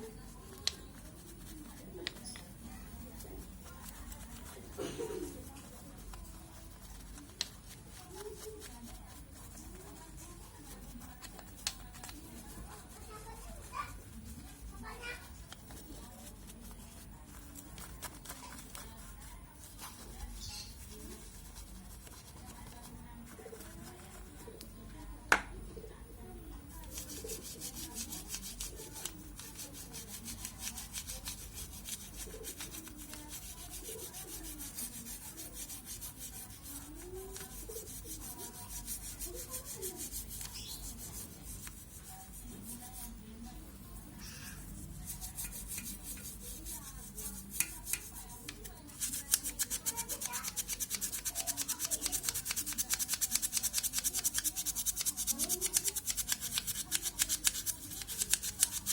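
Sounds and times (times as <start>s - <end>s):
stiff brush scrubbing: 0.0s - 24.7s, 26.7s - 58.9s.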